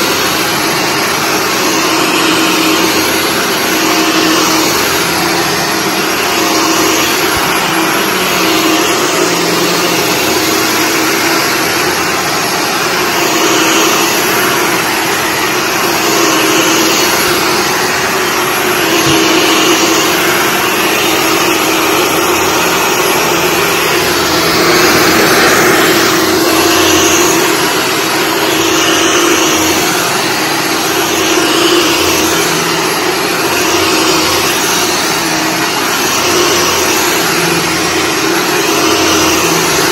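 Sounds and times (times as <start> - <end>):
upright vacuum cleaner on carpet: 0.0 - 39.9.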